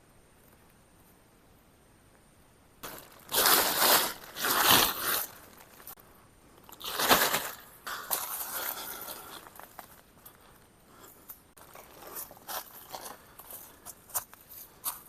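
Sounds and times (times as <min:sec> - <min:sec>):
rustling and crunching: 0:02.8 - 0:15.0.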